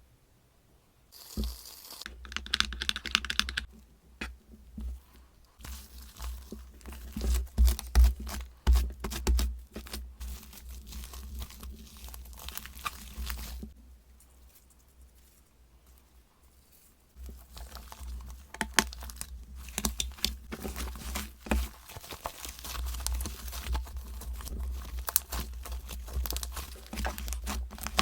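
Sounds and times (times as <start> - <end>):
slime squishing: 1.2 - 13.8, 17.2 - 28.0.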